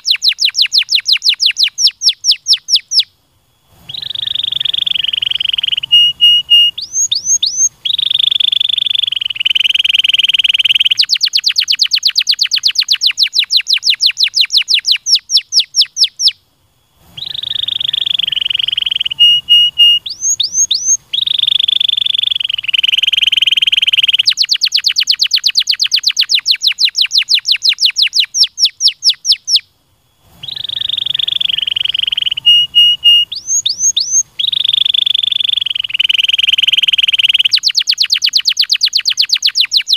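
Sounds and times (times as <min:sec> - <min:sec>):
canary singing trills: 0:00.0 - 0:16.4, 0:17.1 - 0:39.9.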